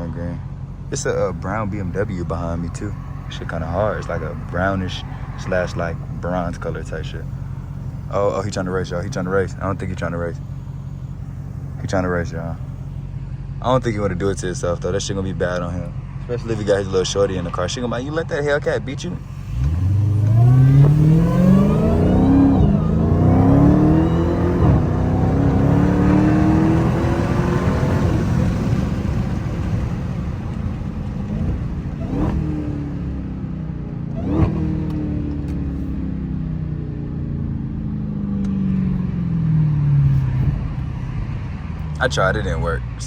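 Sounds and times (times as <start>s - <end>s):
car engine accelerating hard: 0.0s - 43.0s.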